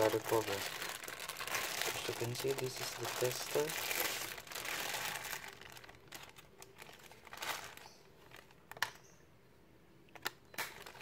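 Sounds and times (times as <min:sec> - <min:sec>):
plastic bag crinkling: 0:00.0 - 0:08.8, 0:10.5 - 0:11.0.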